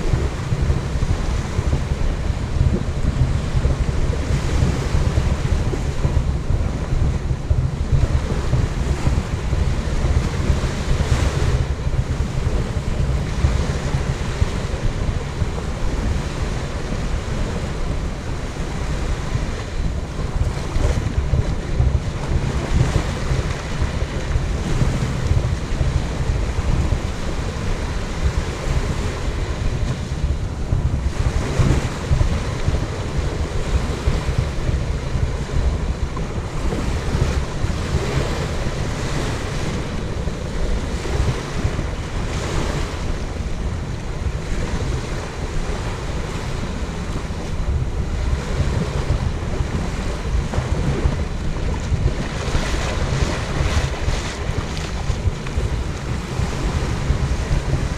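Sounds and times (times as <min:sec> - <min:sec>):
small waves washing on beach: 0:00.0 - 0:57.9
wind buffeting microphone: 0:00.0 - 0:57.9.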